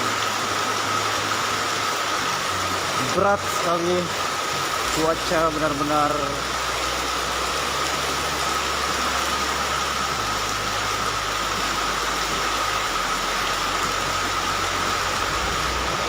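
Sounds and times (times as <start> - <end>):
heavy rain pouring: 0.0 - 16.0
low engine hum: 0.0 - 16.0.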